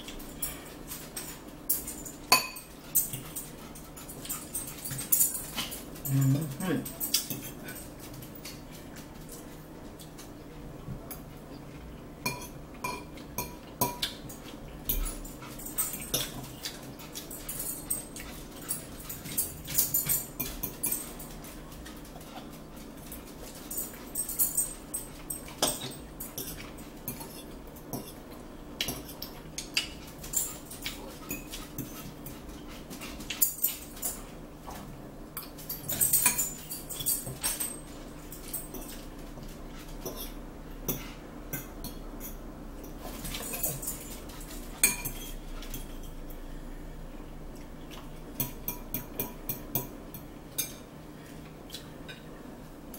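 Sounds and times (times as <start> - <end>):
forks clinking and scraping on plates: 0.0 - 10.3, 12.2 - 34.8, 35.4 - 46.5, 47.9 - 50.9.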